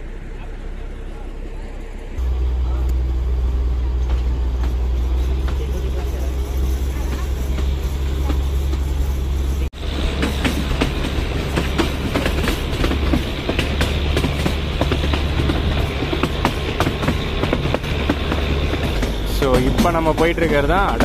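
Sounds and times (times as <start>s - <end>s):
train rumbling: 0.0s - 21.0s
wheels clicking on track: 2.2s - 21.0s.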